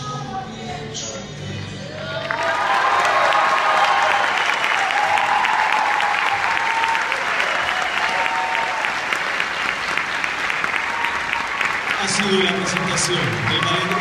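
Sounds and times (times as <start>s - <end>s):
audience applauding: 2.0s - 14.0s.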